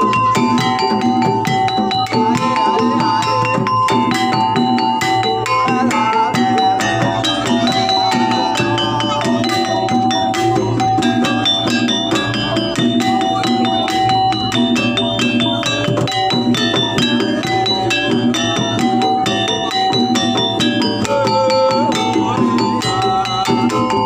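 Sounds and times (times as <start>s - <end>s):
held high tone: 0.0s - 24.0s
ringing metal percussion: 0.0s - 24.0s.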